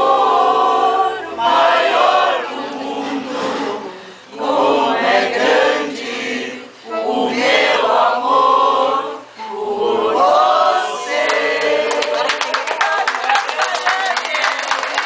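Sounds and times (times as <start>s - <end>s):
group singing in unison: 0.0s - 13.1s.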